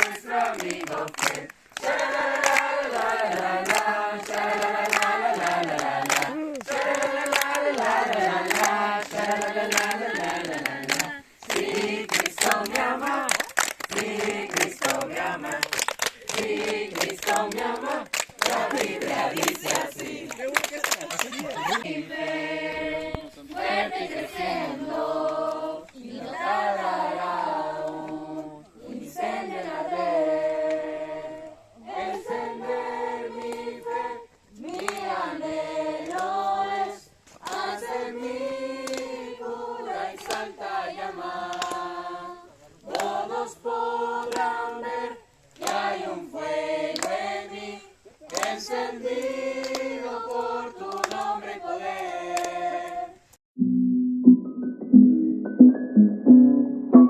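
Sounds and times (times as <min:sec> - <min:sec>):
group singing without instruments: 0:00.0 - 0:53.4.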